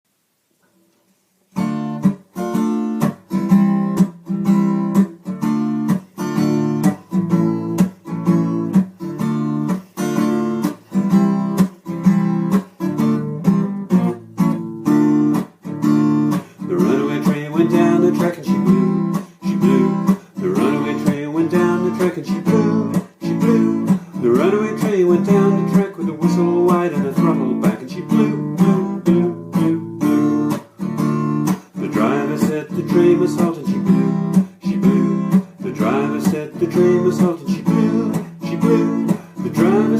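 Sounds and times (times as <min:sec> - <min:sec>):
acoustic guitar strumming: 0:01.5 - 0:39.9.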